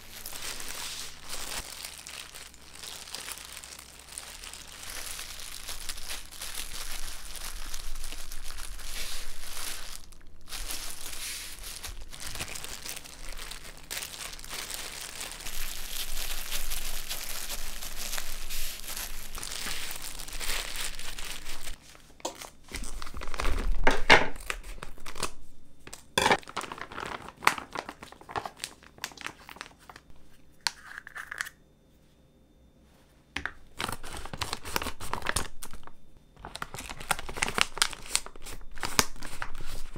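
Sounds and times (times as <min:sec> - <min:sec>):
plastic bag handling: 0:00.0 - 0:30.1, 0:33.7 - 0:39.9
plastic gloves crinkling: 0:00.0 - 0:30.4, 0:33.6 - 0:39.9.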